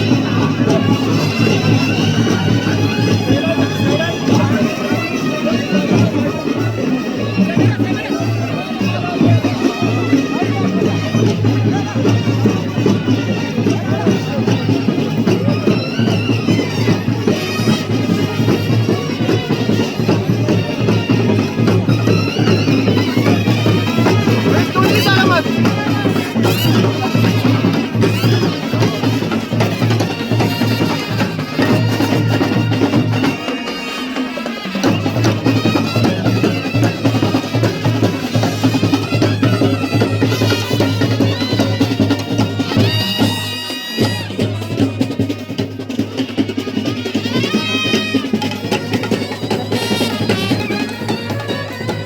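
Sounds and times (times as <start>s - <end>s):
drums and percussion: 0.0s - 52.0s.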